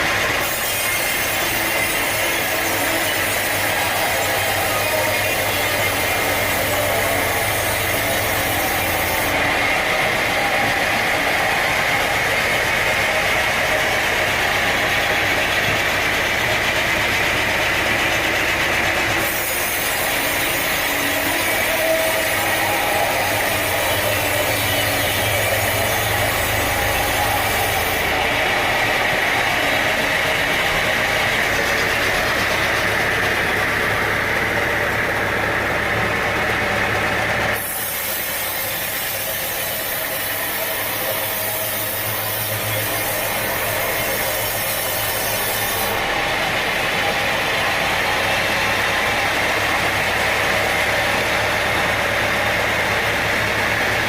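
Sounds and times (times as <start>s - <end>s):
engine-driven saw humming: 0.0s - 54.0s.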